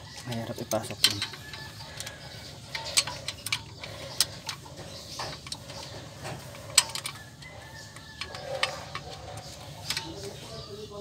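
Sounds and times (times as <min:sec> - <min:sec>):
metal fitting clicks: 0:00.0 - 0:10.5.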